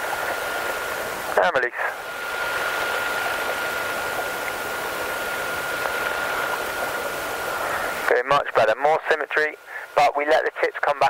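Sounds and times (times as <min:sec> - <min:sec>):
radio channel hiss: 0:00.0 - 0:11.0.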